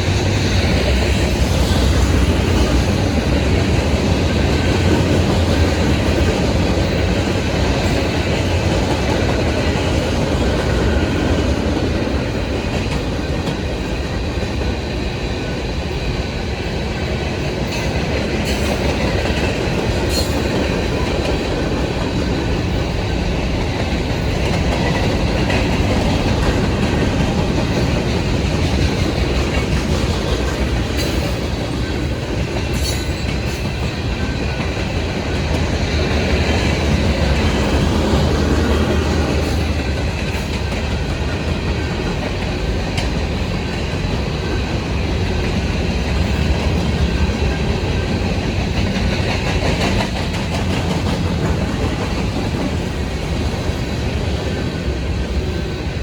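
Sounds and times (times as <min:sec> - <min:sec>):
wheels clacking over rail joints: 0:00.0 - 0:55.7
train wheels rumbling on rail: 0:00.0 - 0:56.0.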